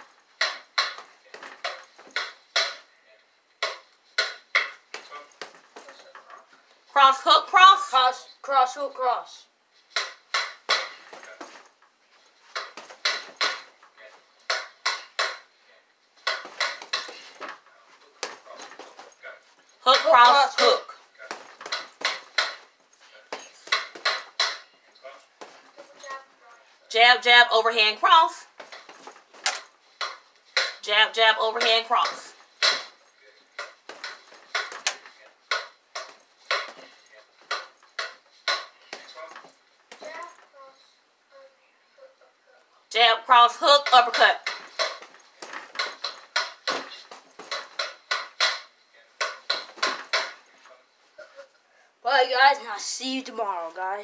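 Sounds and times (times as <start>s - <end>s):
hoop frame rattling: 0.0s - 8.1s, 9.8s - 40.7s, 42.9s - 51.5s.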